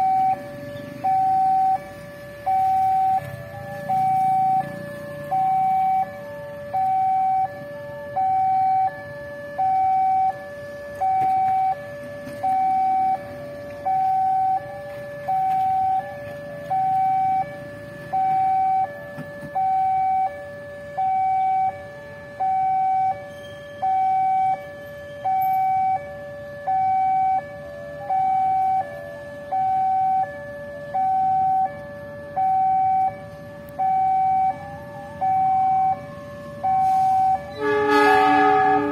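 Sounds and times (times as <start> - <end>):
level crossing two-tone alarm: 0.0 - 38.9
road traffic hum: 0.0 - 38.9.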